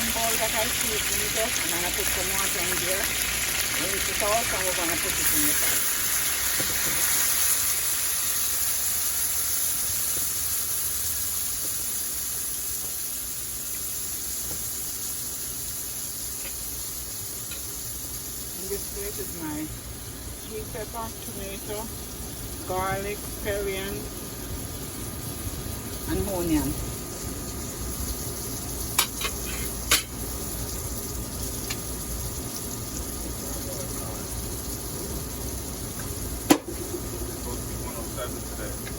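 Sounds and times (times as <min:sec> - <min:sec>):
chicken sizzling in a hot pot: 0:00.0 - 0:38.9.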